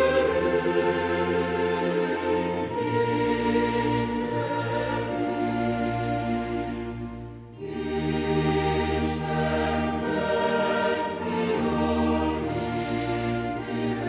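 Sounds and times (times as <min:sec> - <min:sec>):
choral music with held chords: 0:00.0 - 0:14.0.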